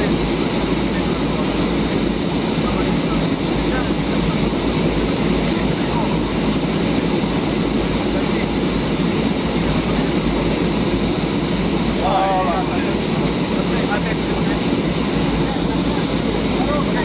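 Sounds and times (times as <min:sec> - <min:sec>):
aircraft engine noise: 0:00.0 - 0:17.0
constant high whine: 0:00.0 - 0:17.0.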